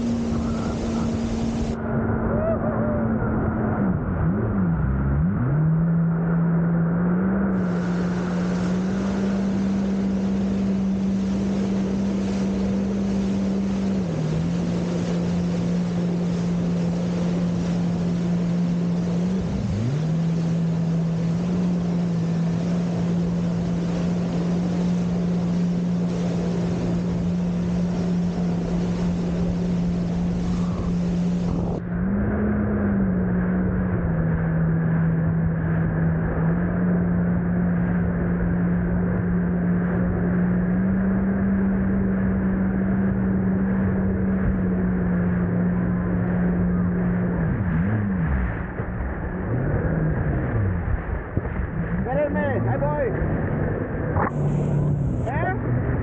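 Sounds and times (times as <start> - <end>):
rush of wind and spray: 0.0 - 3.9, 7.5 - 56.0
jet ski engine running: 0.0 - 56.0.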